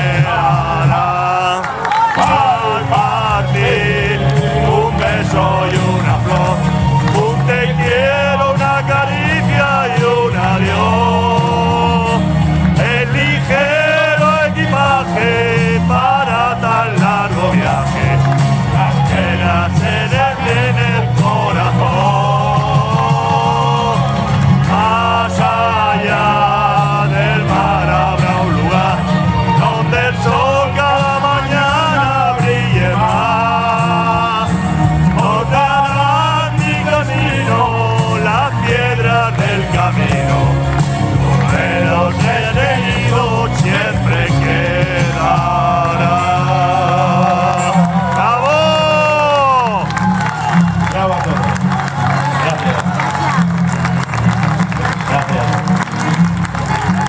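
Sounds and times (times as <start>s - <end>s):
man singing with vibrato: 0.0s - 50.6s
band backing music: 0.0s - 57.0s
bass line: 0.0s - 57.0s.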